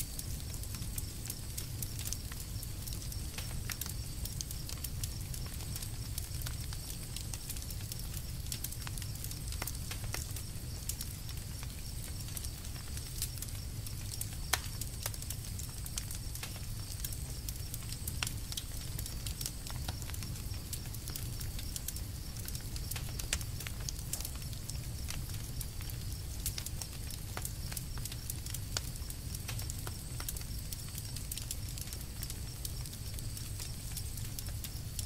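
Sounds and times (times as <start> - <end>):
burning wood popping: 0.0 - 35.0
flames rumbling: 0.0 - 35.0.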